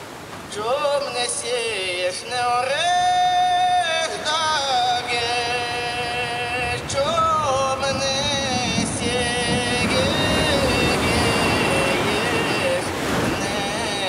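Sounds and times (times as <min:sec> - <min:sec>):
person singing slow song: 0:00.5 - 0:14.0.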